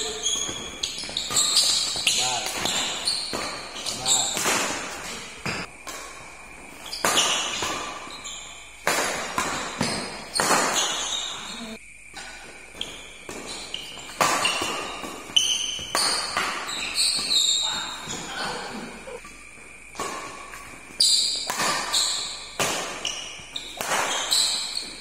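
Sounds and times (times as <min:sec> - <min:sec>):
rackets hitting shuttlecock: 0:00.0 - 0:25.0.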